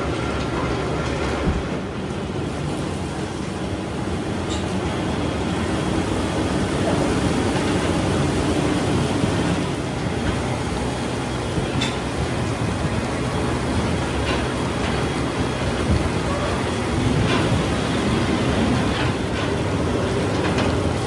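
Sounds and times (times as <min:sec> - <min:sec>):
machine mechanical rumble: 0:00.0 - 0:21.0
hose water spraying on metal: 0:02.1 - 0:21.0.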